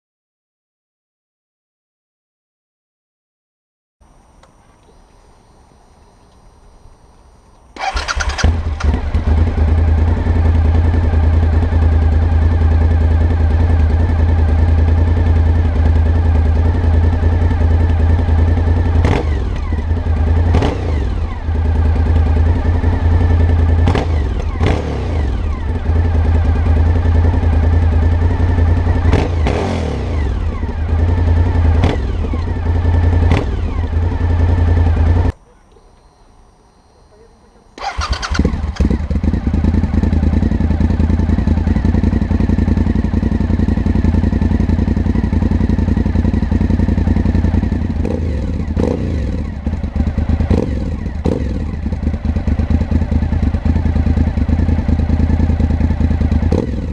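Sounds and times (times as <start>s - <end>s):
motorcycle engine idling and revving: 5.4s - 35.4s, 36.5s - 56.9s.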